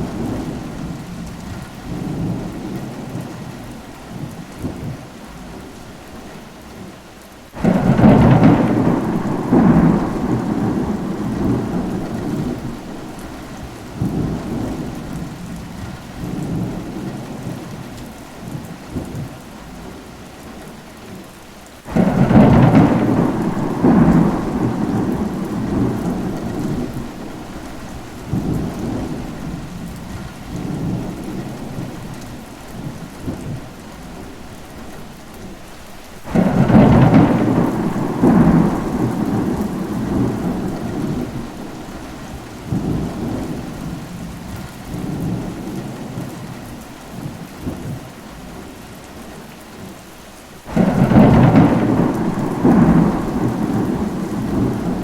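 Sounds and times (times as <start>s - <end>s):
thunder rumbling: 0.0s - 5.1s, 7.6s - 20.0s, 21.9s - 48.6s, 50.6s - 55.0s
steady rain: 0.0s - 55.0s.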